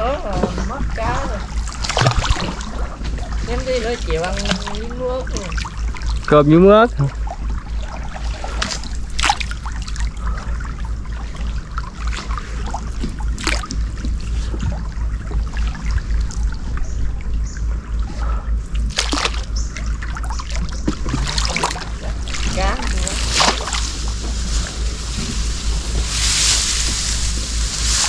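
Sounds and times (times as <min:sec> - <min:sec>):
low rumble: 0:00.0 - 0:28.0
water splashes: 0:00.0 - 0:28.0
water trickling and sloshing: 0:00.0 - 0:28.0.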